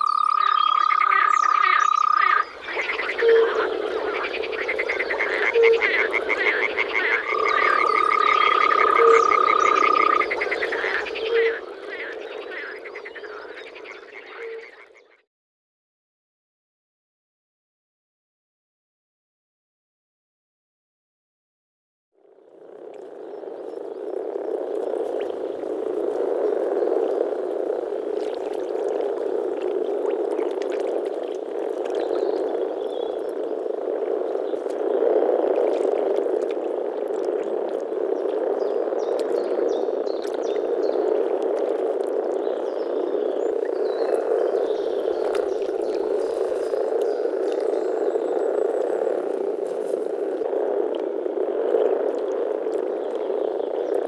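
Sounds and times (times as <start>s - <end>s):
chorus of frogs croaking: 0.0s - 15.2s, 22.2s - 54.0s.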